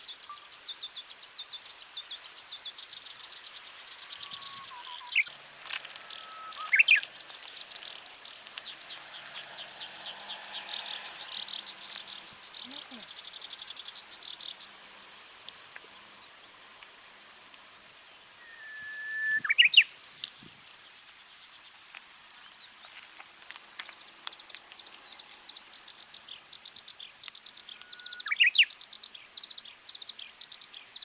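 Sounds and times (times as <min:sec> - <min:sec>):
bush warbler singing: 0:00.0 - 0:31.0.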